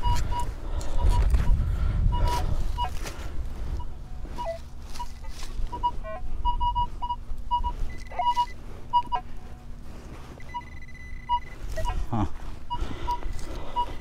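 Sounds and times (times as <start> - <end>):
metal detector beeps: 0.0 - 3.0, 3.8 - 12.1, 12.7 - 14.0
digging in dirt: 0.0 - 14.0.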